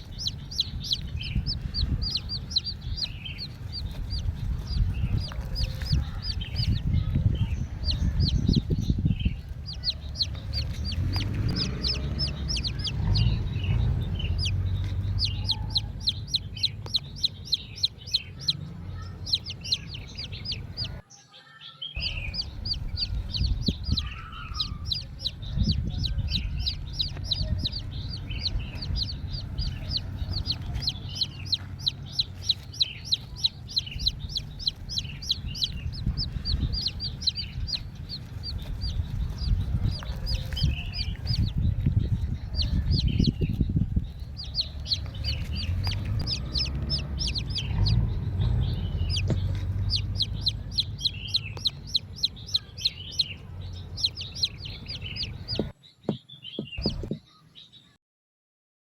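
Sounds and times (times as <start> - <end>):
low rumble: 0.0 - 21.0, 22.0 - 55.7
chickens clucking and peeping: 0.0 - 57.6.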